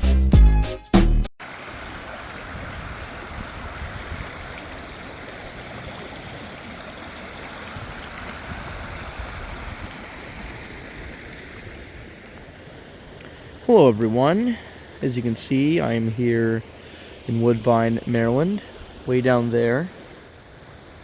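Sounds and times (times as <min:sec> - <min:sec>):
stream flowing: 0:01.4 - 0:21.0.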